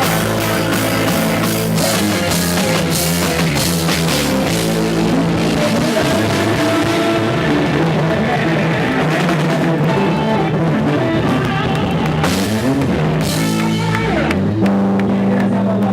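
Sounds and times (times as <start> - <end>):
live band with drums and guitar: 0.0 - 15.9.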